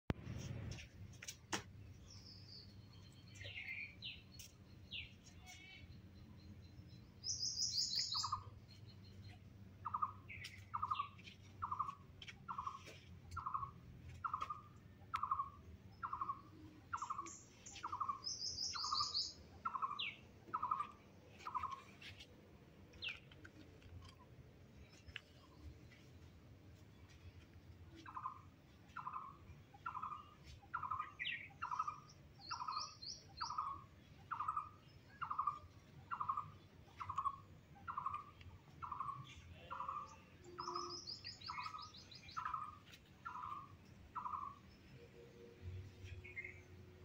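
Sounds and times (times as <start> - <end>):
birds chirping high: 0.3 - 22.2, 22.9 - 45.1, 45.8 - 47.0.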